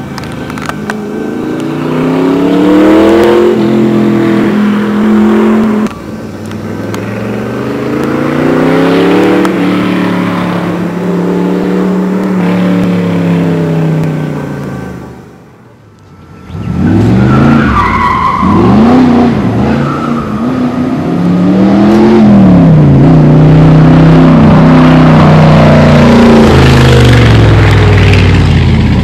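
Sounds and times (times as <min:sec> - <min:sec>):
car engine accelerating hard: 0:00.0 - 0:15.5, 0:16.4 - 0:29.0.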